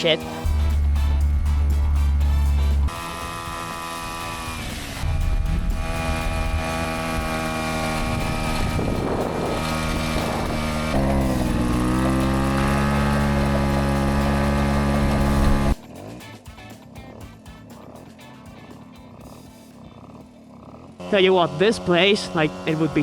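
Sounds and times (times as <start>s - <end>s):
moped engine running: 0.0s - 23.0s.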